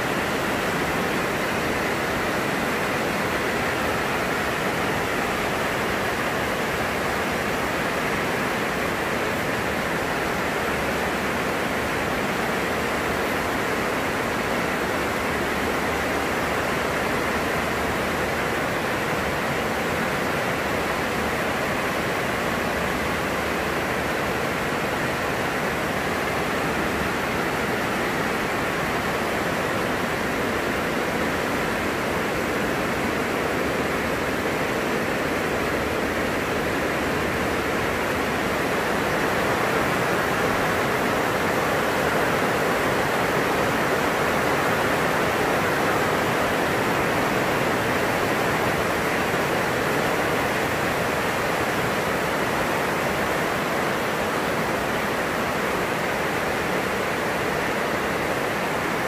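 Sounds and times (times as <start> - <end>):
heavy rain on greenhouse roof: 0.0 - 59.0.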